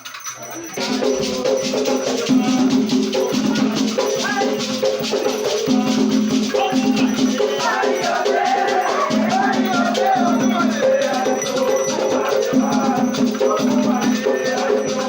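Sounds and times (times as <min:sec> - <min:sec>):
gourd shaker rattling: 0:00.0 - 0:15.0
drums: 0:00.1 - 0:15.0
voices chanting: 0:00.4 - 0:15.0.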